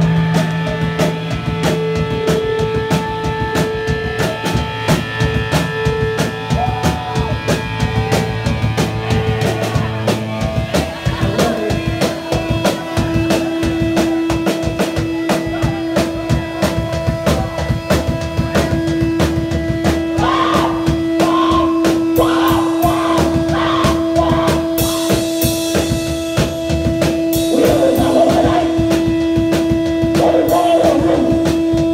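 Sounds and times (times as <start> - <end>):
held guitar notes: 0.0 - 31.9
punk rock band playing live: 0.0 - 31.9.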